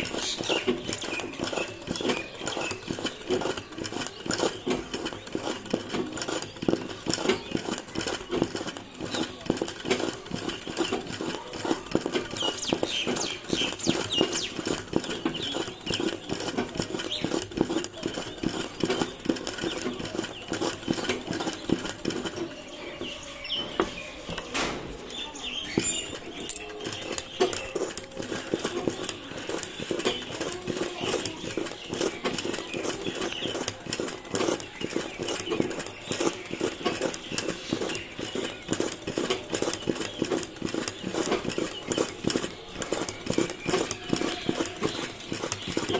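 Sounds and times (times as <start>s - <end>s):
sewing machine needle clattering: 0.0s - 22.5s, 25.7s - 45.9s.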